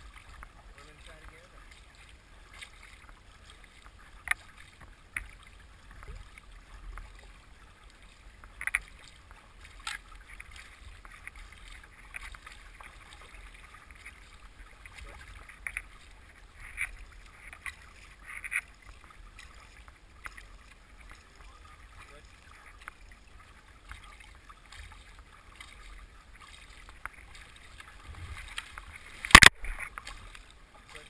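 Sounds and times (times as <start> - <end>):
sharp water splashes: 0.0 - 31.0
water rushing against boat bow: 0.0 - 31.0.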